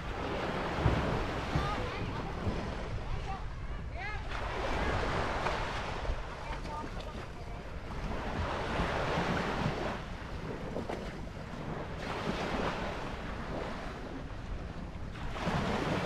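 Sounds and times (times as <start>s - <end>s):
sea water washing: 0.0s - 16.0s
wind rumbling on microphone: 0.0s - 16.0s.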